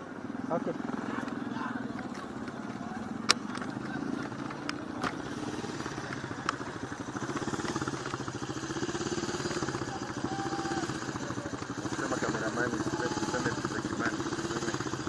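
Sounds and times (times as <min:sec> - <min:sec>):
small engine puttering: 0:00.5 - 0:15.0.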